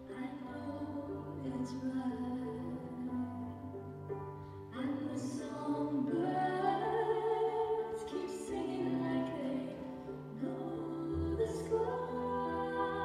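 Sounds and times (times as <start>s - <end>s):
slow gentle song: 0.0s - 13.0s.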